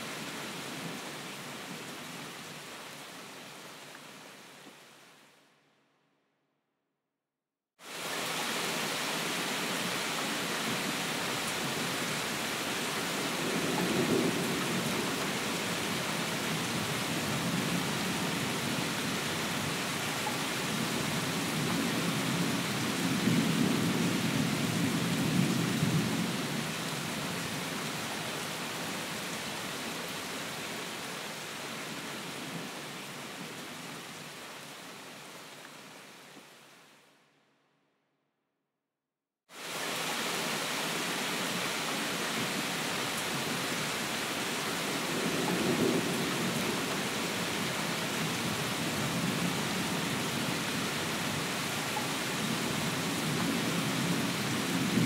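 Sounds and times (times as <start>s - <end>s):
steady rain: 0.0s - 5.6s, 7.8s - 37.2s, 39.5s - 55.0s.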